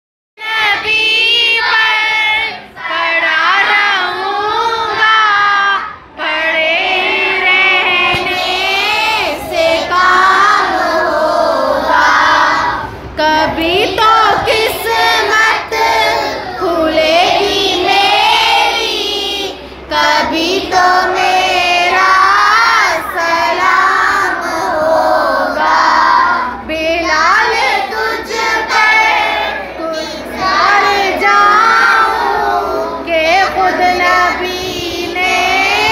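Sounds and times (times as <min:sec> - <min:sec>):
children singing devotional song: 0:00.4 - 0:35.9.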